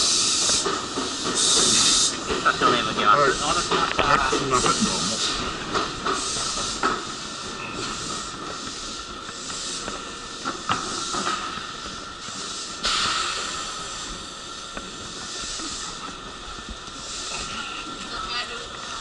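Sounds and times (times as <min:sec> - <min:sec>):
burst of air hiss: 0:00.0 - 0:02.4, 0:03.6 - 0:16.1, 0:17.0 - 0:17.8
train hiss and high hum: 0:00.0 - 0:19.0.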